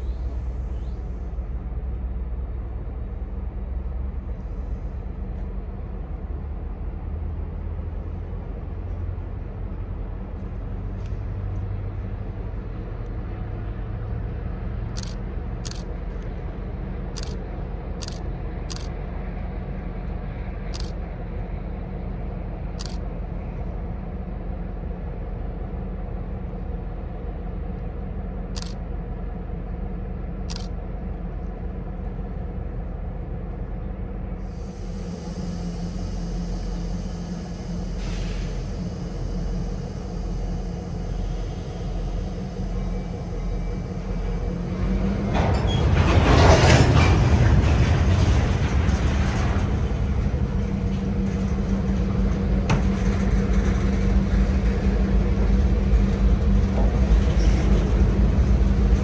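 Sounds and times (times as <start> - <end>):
diesel train rumbling: 0.0 - 59.0.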